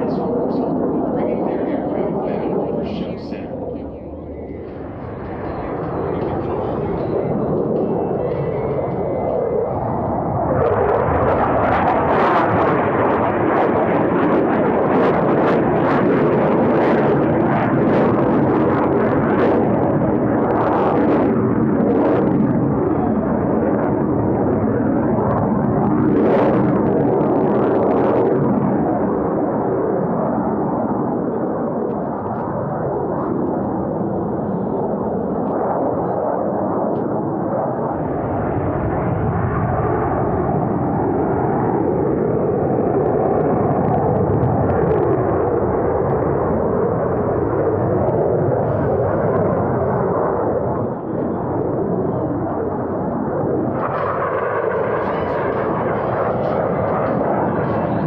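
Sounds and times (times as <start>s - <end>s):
jet aircraft climbing with crackle: 0.0s - 58.0s.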